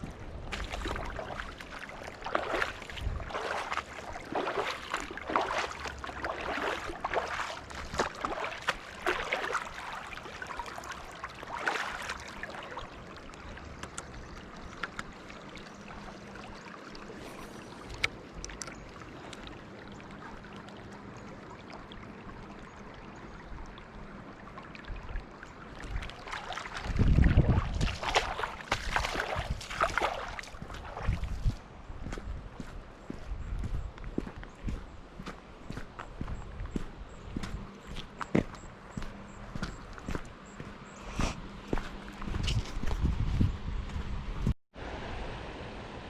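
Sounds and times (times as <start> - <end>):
shallow river water rushing: 0.0 - 42.4, 44.8 - 46.0
water splashes and swishes: 0.0 - 46.0.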